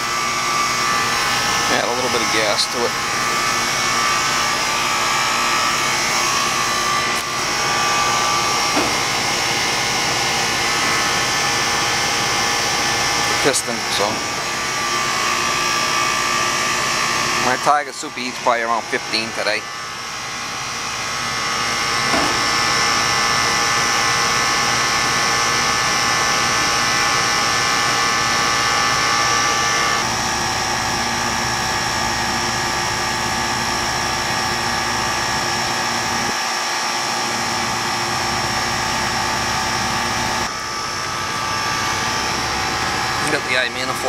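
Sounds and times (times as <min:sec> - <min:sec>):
air conditioner unit humming: 0:00.0 - 0:44.0.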